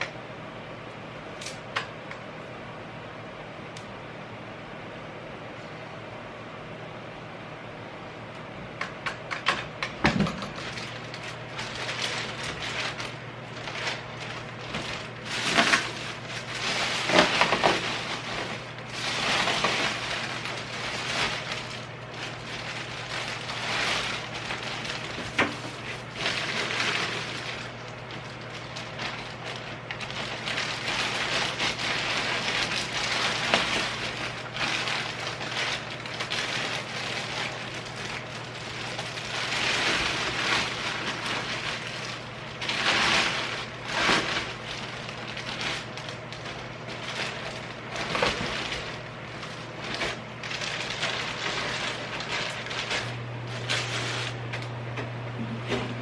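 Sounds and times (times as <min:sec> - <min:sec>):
steady low hum: 0:00.0 - 0:56.0
rustling and handling noises: 0:09.5 - 0:54.7.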